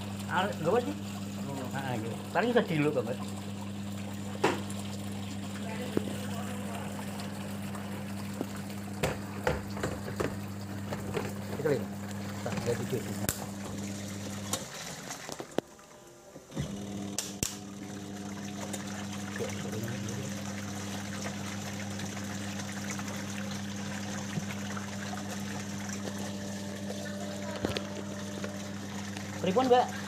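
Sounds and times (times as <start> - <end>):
water sloshing in tub: 0.0 - 15.8, 16.7 - 30.0
washing machine motor humming: 0.0 - 30.0.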